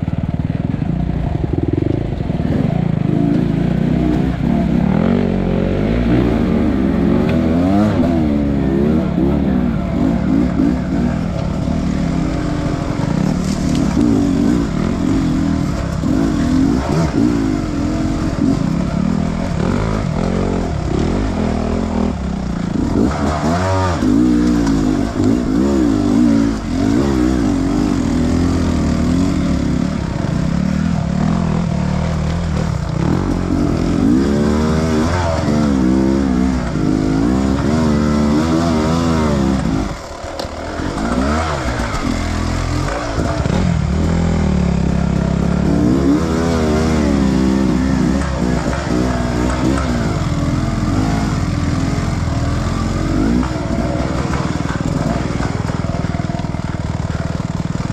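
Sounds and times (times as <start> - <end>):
dirt bike engine revving: 0.7 - 57.9.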